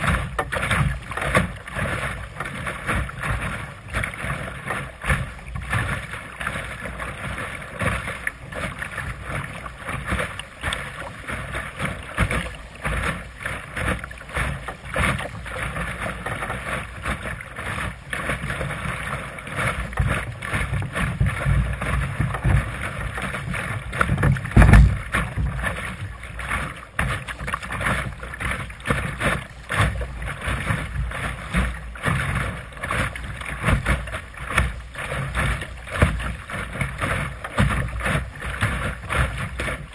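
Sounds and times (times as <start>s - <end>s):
low bump on hull: 0.0s - 39.9s
water rushing along a hull: 0.0s - 39.9s.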